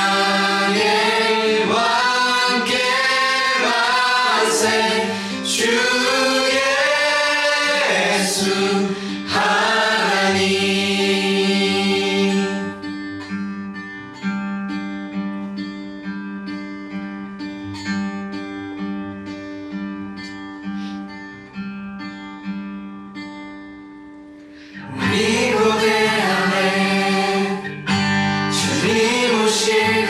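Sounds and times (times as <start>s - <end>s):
acoustic guitar picking: 0.0s - 30.0s.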